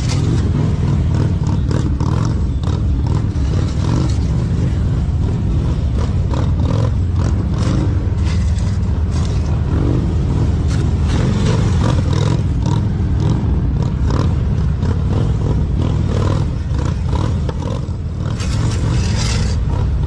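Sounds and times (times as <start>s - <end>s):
motorcycle engine low rumble: 0.0s - 20.0s.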